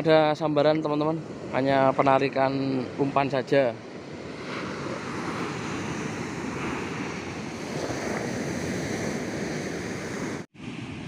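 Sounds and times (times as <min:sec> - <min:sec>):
ocean surf breaking: 0:00.1 - 0:11.0.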